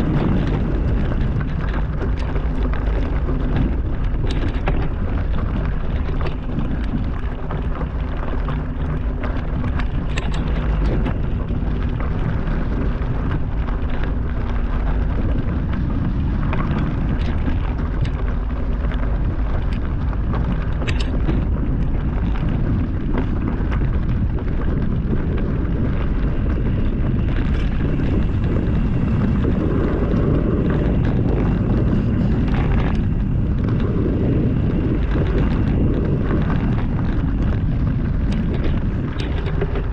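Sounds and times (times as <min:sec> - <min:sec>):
bike knocking and rattling: 0:00.0 - 0:39.9
wind rushing over microphone: 0:00.0 - 0:39.9.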